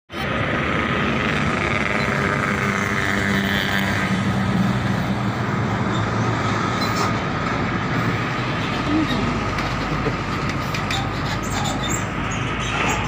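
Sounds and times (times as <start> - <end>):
road traffic noise: 0.1 - 13.0.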